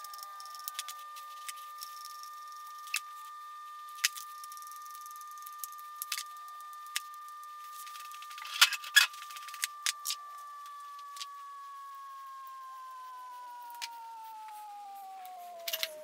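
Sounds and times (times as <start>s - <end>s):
faint high-pitched tone: 0.0s - 16.0s.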